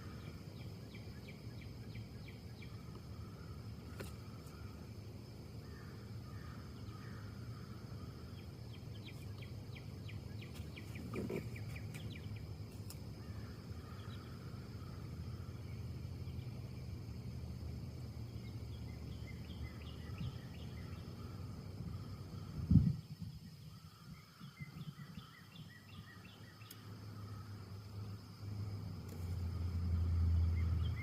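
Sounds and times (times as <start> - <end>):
bird chirping: 0.0 - 4.9, 5.6 - 17.1, 17.8 - 28.6, 29.4 - 31.0
wind in trees: 0.0 - 31.0.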